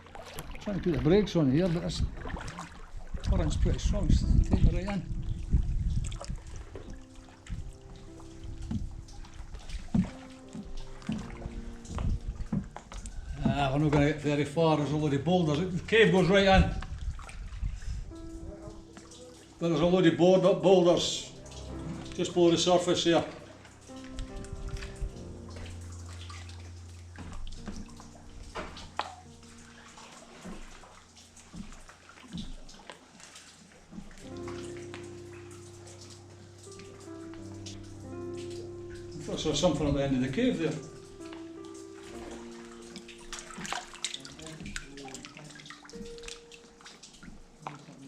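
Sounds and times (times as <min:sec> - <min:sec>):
water sloshing around kayak: 0:00.0 - 0:37.9, 0:38.5 - 0:48.0.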